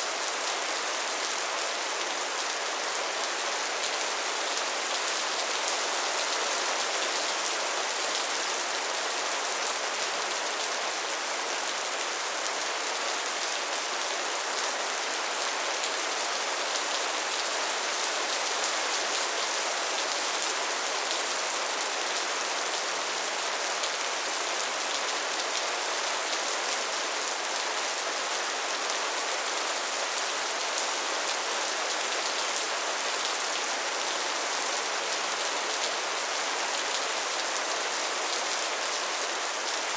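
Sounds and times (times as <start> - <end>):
soft steady rain: 0.0 - 39.9.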